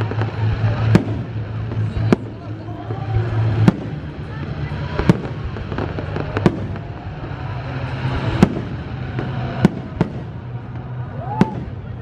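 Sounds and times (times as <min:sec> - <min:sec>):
background rumble: 0:00.0 - 0:12.0.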